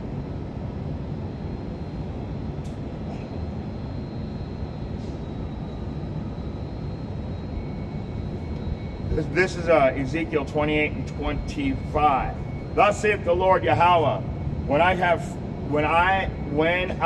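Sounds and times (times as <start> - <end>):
faint high whine: 0.0 - 17.0
low background rumble: 0.0 - 17.0.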